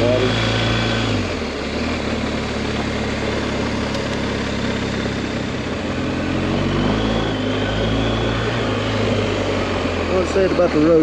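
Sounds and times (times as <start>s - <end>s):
motorcycle engine running: 0.0s - 11.0s
tyres on gravel road: 0.0s - 11.0s.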